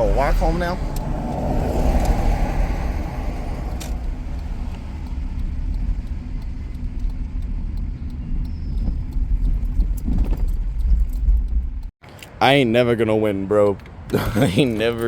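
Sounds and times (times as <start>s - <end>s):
road vehicle rumble: 0.0s - 15.0s.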